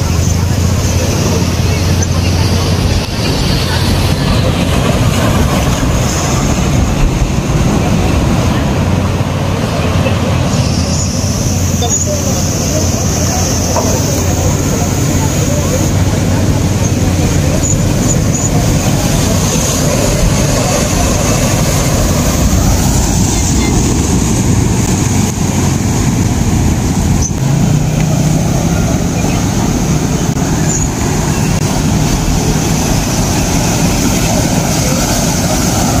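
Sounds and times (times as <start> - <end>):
ocean waves breaking on rocks: 0.0 - 36.0.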